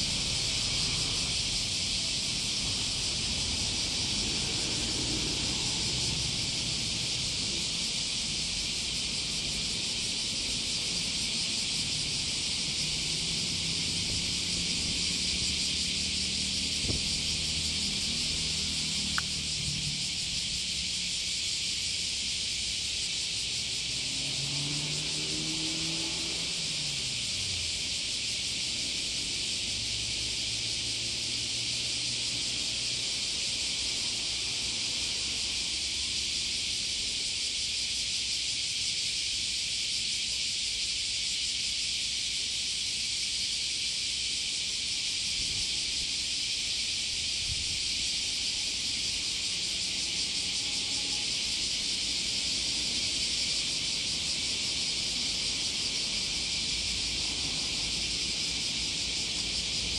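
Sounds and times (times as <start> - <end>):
high-pitched hiss: 0.0 - 59.9.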